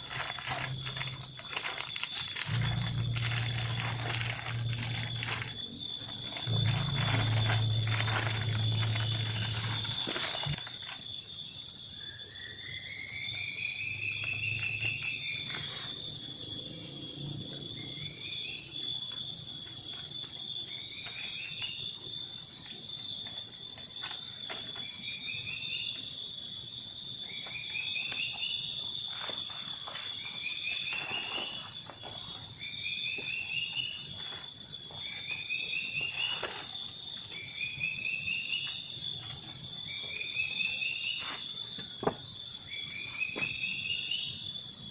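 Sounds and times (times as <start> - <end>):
high-pitched insect drone: 0.0 - 44.9.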